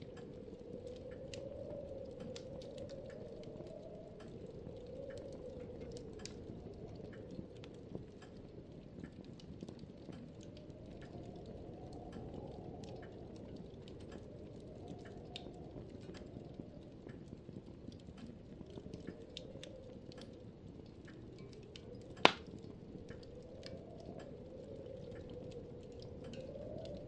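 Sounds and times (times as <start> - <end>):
low steady background noise: 0.0 - 27.0.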